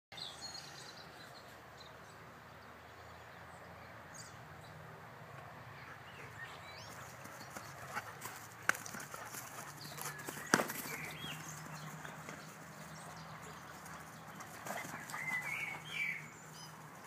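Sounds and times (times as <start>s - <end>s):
faint outdoor ambience: 0.1s - 17.0s.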